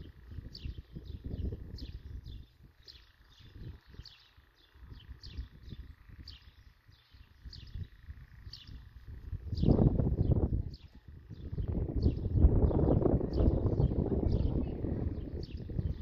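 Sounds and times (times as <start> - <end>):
bird chirping: 0.0 - 16.0
wind on microphone: 0.0 - 16.0.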